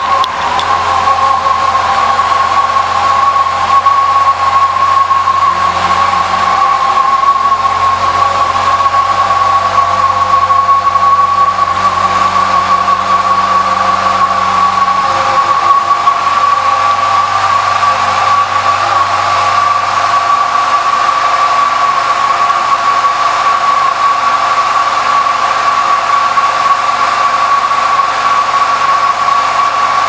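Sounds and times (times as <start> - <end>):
constant high hum: 0.0 - 30.0.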